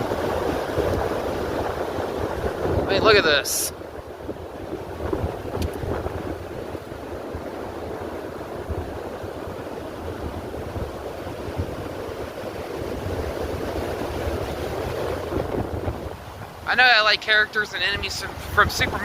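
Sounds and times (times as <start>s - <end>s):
storm wind through trees: 0.0s - 19.0s
wind buffeting microphone: 0.0s - 19.0s.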